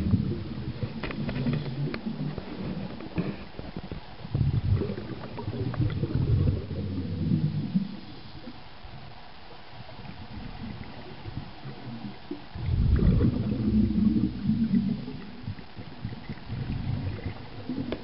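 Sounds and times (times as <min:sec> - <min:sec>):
underwater air bubbles gurgling: 0:00.0 - 0:18.0.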